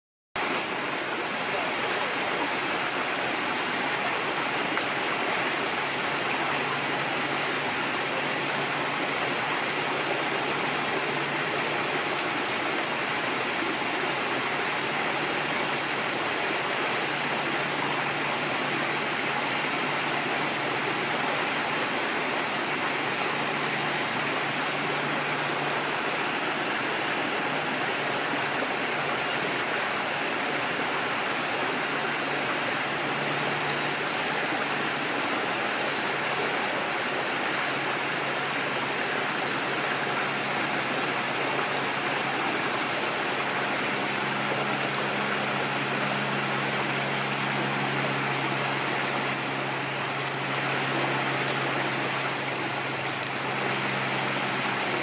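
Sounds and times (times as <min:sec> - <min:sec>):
running water stream: 0:00.4 - 0:55.0.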